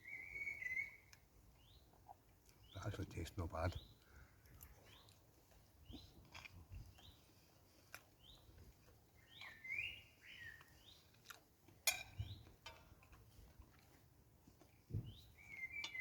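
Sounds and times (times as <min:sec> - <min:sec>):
birds chirping faintly: 0:00.0 - 0:11.4, 0:14.5 - 0:16.0.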